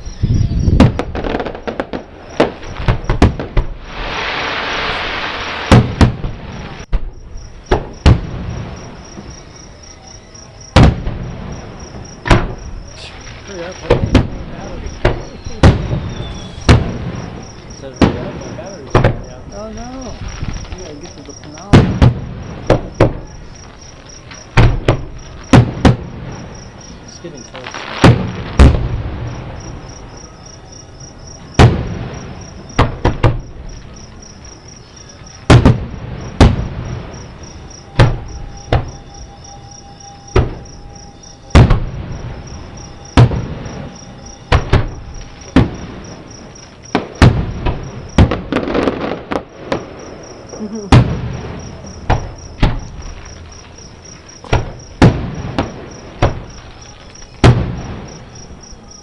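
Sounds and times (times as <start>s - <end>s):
crickets chirping: 0.0s - 59.0s
distant fireworks booming: 0.0s - 59.0s.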